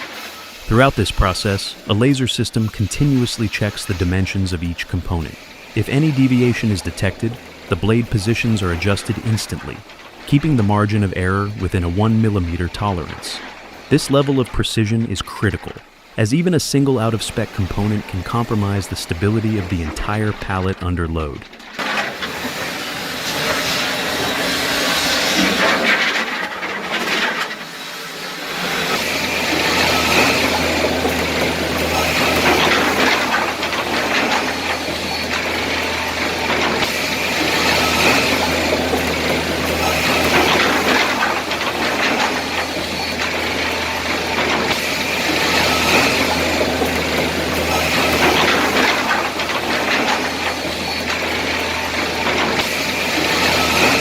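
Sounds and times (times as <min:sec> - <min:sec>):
conveyors and saws clattering: 0:00.0 - 0:54.0
machinery low hum: 0:00.0 - 0:54.0.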